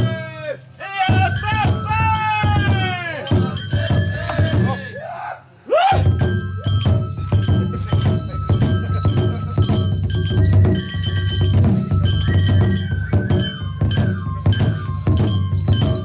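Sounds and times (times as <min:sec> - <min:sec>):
taiko drum beat: 0:00.0 - 0:05.0, 0:05.9 - 0:16.0
transverse flute melody: 0:00.0 - 0:16.0.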